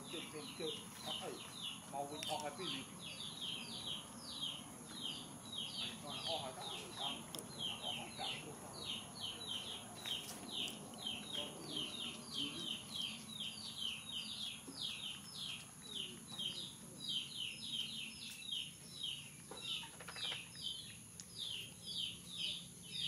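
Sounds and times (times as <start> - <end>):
small bird chirping: 0.0 - 23.0.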